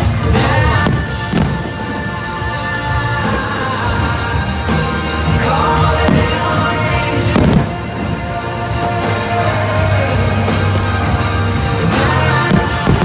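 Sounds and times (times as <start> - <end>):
pop-rock song with singing: 0.0 - 13.0.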